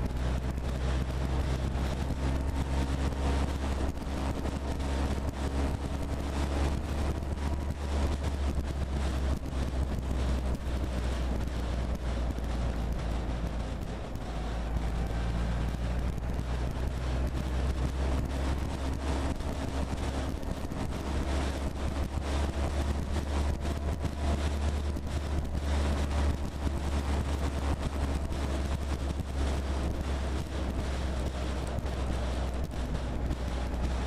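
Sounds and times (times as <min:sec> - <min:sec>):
low engine drone: 0:00.0 - 0:34.0
wind buffeting microphone: 0:00.0 - 0:34.0.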